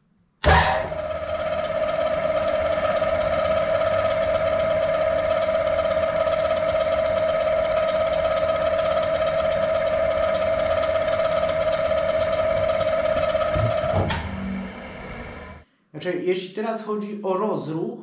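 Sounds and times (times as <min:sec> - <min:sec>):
electric wood splitter whining: 0:00.4 - 0:15.6.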